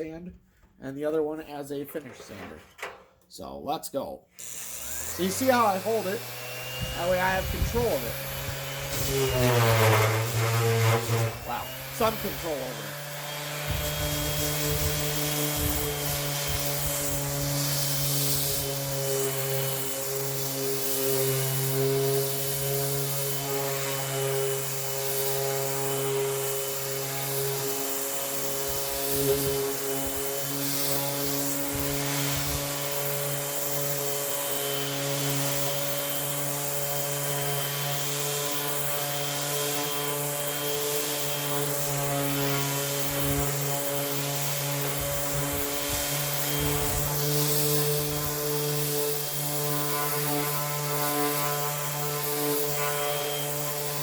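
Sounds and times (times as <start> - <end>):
electric disc sander running: 4.4 - 54.0
sandpaper rasping on wood: 4.8 - 54.0.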